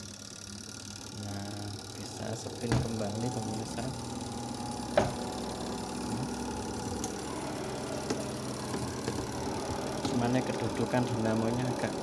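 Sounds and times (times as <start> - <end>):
washing machine spin motor humming: 0.0 - 12.0.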